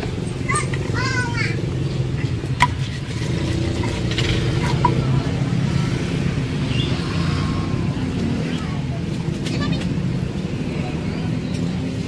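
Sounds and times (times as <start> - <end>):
low rumble of motor traffic: 0.0 - 12.0.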